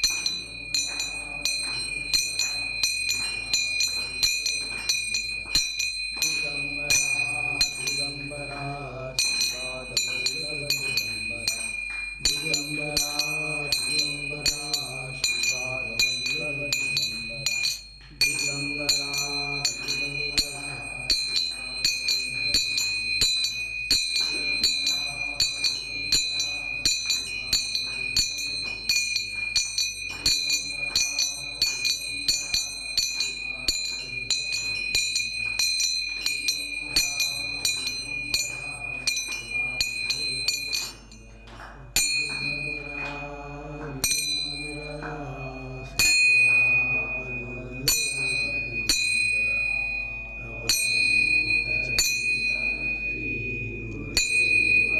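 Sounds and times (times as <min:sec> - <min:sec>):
man singing a chant: 0:00.0 - 0:54.9
small metal bells struck: 0:00.0 - 0:54.9.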